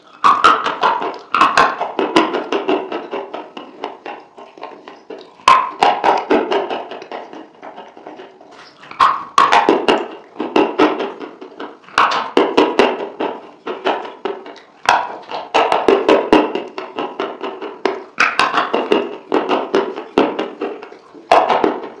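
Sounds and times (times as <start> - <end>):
wet smacking and chewing: 0.0 - 22.0.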